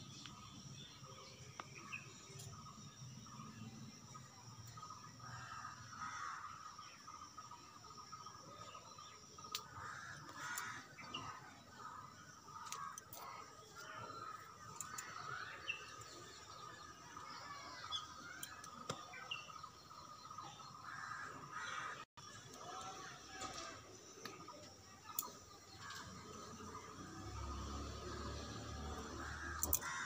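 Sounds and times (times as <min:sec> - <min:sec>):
bird chirps: 0:00.0 - 0:30.0.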